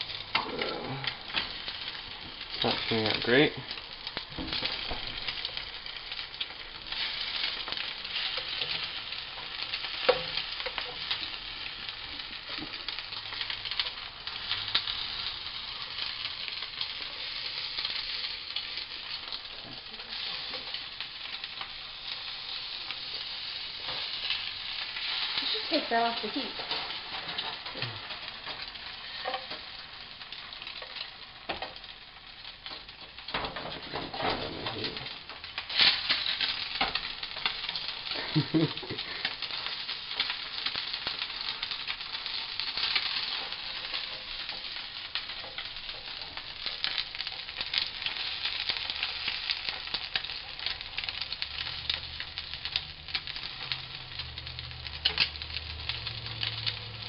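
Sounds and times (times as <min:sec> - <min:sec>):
egg sizzling in a frying pan: 0:00.0 - 0:57.0.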